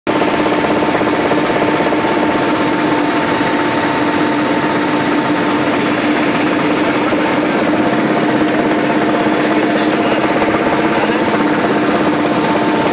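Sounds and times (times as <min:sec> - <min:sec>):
helicopter engine drone: 0:00.1 - 0:12.9
high whine: 0:00.1 - 0:12.9.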